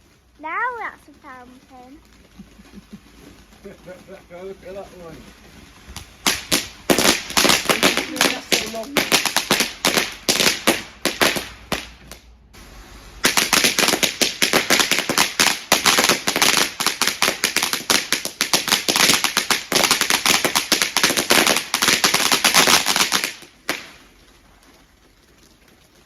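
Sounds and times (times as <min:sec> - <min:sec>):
firework crackling: 0:00.0 - 0:26.0.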